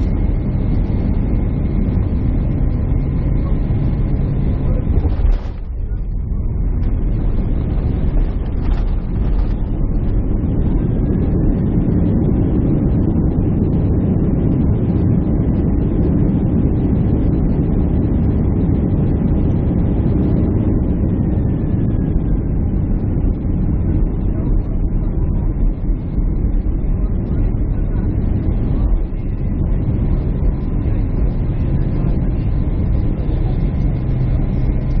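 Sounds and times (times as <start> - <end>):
airliner cabin jet engine rush: 0.0 - 35.0.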